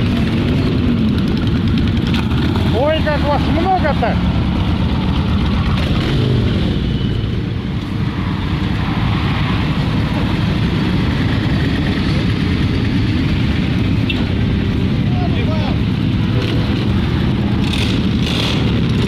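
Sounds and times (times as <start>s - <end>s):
motorcycle engines rumbling: 0.0s - 19.0s.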